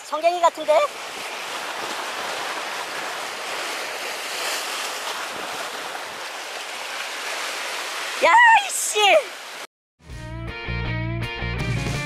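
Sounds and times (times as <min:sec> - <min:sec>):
sea waves breaking on concrete: 0:00.0 - 0:09.7.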